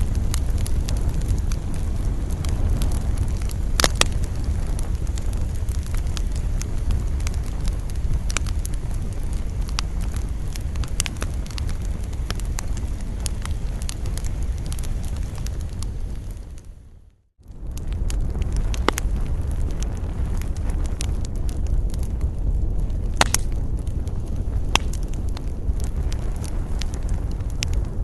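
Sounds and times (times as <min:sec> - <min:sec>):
campfire crackling and popping: 0:00.0 - 0:28.0
low rumble of wind: 0:00.0 - 0:28.0.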